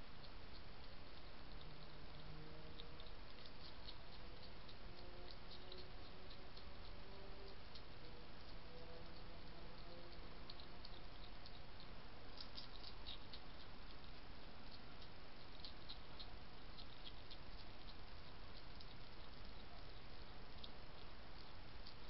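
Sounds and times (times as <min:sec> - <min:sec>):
background hiss: 0:00.0 - 0:22.0
hedgehog crunching biscuits: 0:00.2 - 0:22.0.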